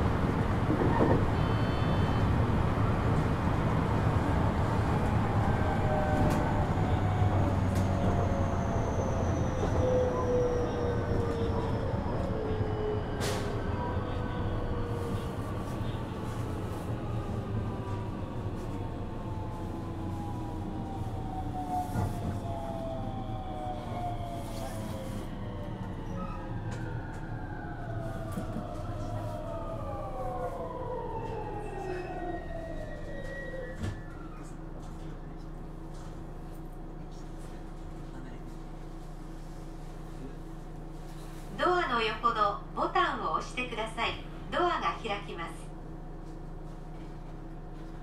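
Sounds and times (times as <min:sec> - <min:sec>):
wheels rumbling on track: 0:00.0 - 0:42.9.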